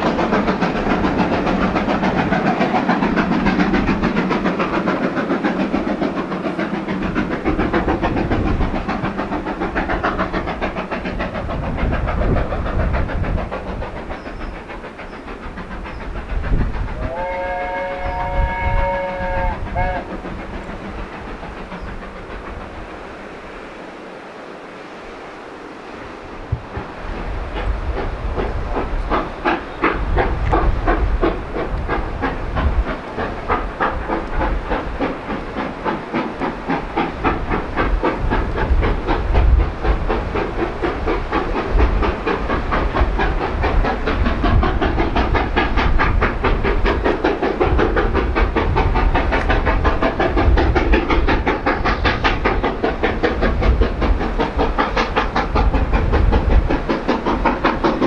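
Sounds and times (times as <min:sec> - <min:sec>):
steady steam hiss: 0:00.0 - 0:58.0
steam locomotive exhaust beats: 0:00.0 - 0:58.0.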